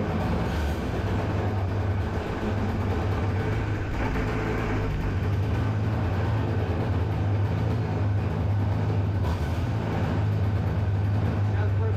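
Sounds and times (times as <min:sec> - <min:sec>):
small two-stroke engine idling: 0:00.0 - 0:11.9.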